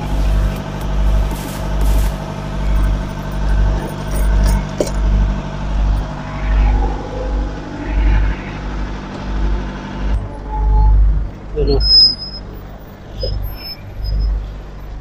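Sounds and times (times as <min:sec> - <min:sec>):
diesel truck engines idling: 0:00.0 - 0:15.0.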